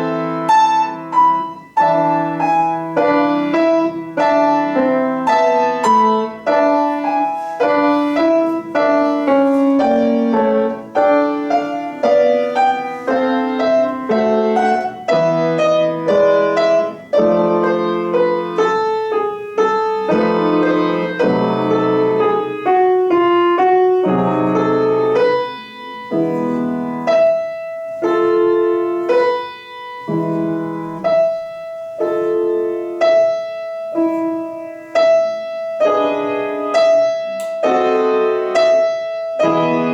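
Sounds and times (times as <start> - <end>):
solo piano classical piece: 0.0 - 39.9.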